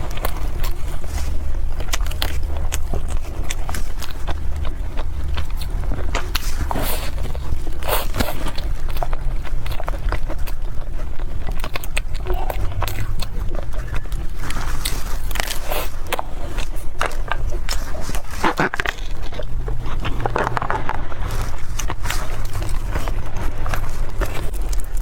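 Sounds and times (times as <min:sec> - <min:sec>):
chewing crisp pastries: 0:00.0 - 0:25.0
steady low rumble: 0:00.0 - 0:25.0.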